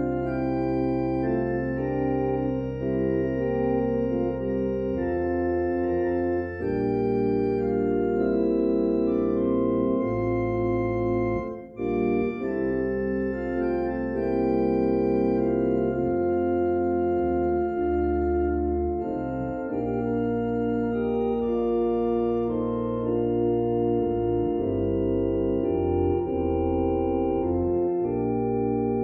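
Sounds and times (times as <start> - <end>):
organ playing sustained chords: 0.0 - 29.0.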